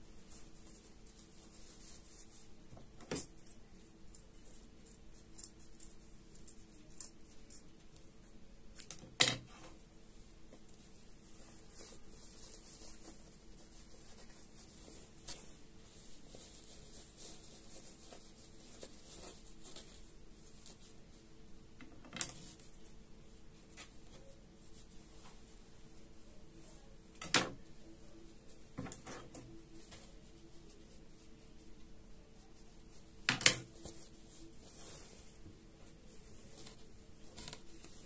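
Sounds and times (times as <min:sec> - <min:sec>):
fabric rubbing and rustling: 0:00.0 - 0:03.0, 0:09.5 - 0:21.7, 0:22.3 - 0:38.0.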